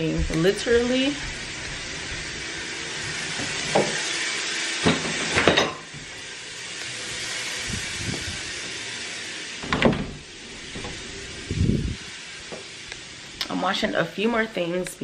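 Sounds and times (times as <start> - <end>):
laundry machine running: 0.0 - 15.0.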